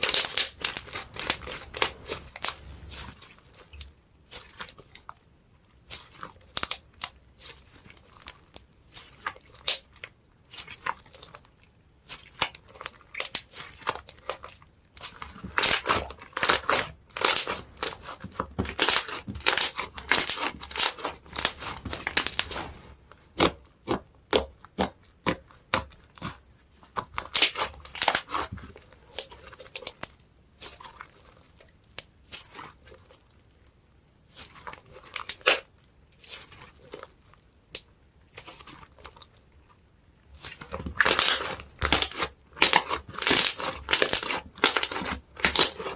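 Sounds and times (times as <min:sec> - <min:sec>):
slime crackling and popping: 0:00.0 - 0:33.5, 0:34.2 - 0:39.4, 0:40.2 - 0:45.9.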